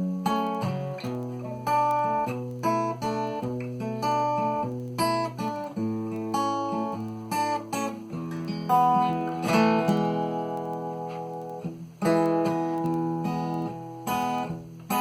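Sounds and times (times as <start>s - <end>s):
fingerstyle acoustic guitar: 0.0s - 15.0s.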